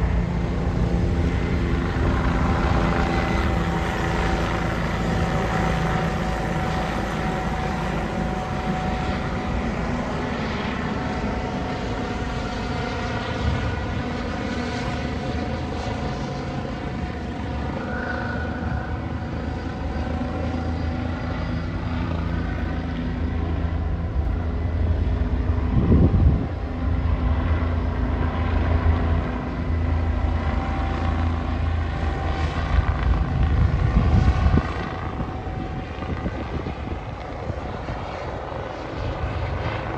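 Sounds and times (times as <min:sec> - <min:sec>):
helicopter rotor and turbine whine: 0:00.0 - 0:39.9.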